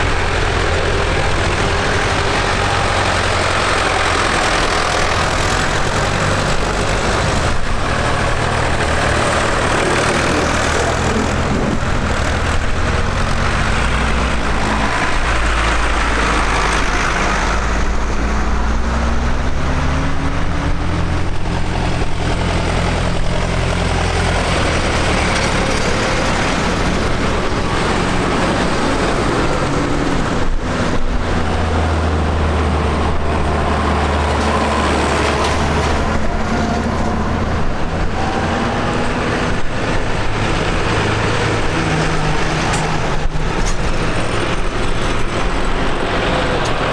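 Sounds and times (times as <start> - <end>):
diesel tractor engines running: 0.0 - 46.9.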